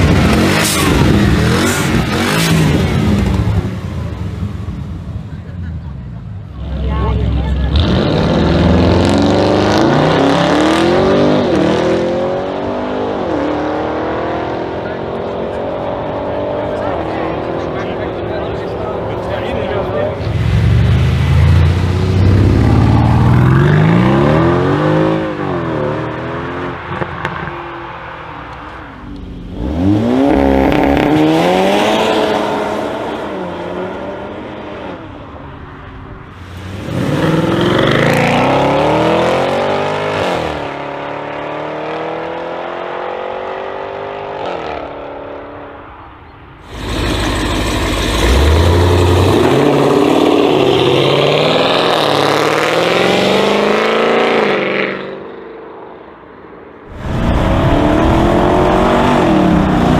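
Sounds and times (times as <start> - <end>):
suv engines revving and accelerating: 0.0 - 45.8, 46.6 - 55.6, 56.8 - 59.9.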